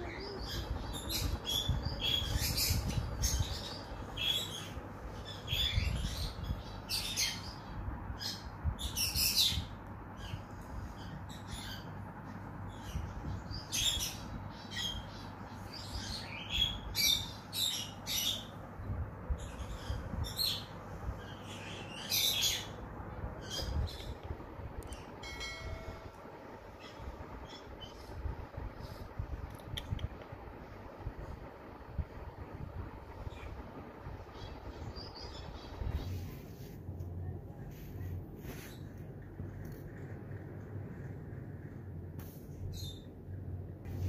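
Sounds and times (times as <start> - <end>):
small birds chirping: 0.0 - 41.8, 42.5 - 44.0
steady low rumble: 0.0 - 44.0.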